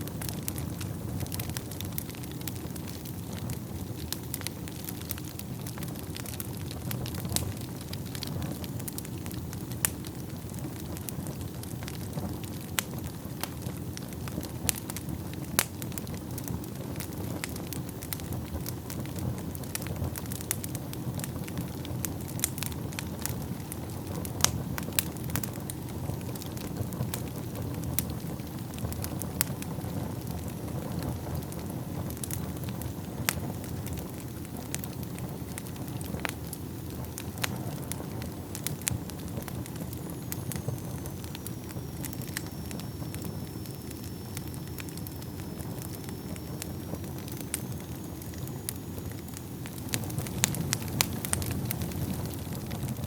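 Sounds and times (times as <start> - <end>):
burning wood crackling and popping: 0.0 - 53.0
fire flames rumbling: 0.0 - 53.0.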